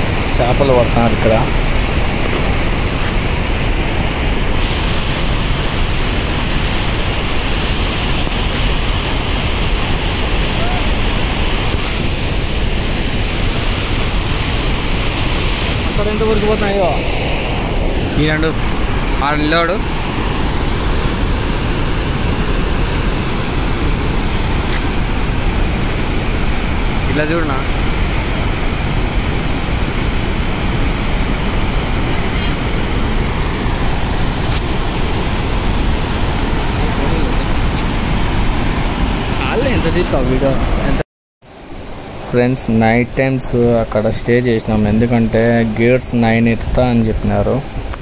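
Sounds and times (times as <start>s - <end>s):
floodwater rushing through dam gates: 0.0s - 41.0s.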